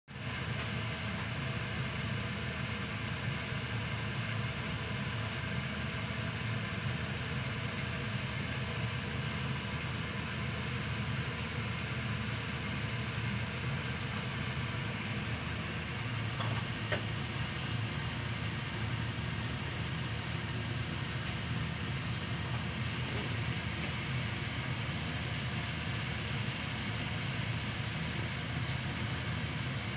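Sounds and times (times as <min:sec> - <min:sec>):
meat boiling in a frying pan: 0:00.1 - 0:29.9.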